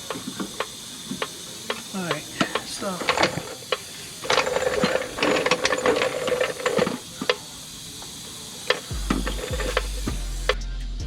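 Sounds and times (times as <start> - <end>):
hand ratchet clicking: 0.0 - 10.6.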